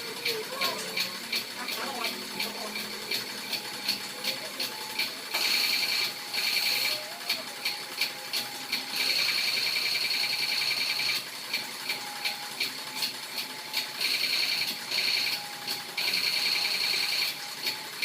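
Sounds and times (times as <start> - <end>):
quick regular clicks: 0.0 - 18.0.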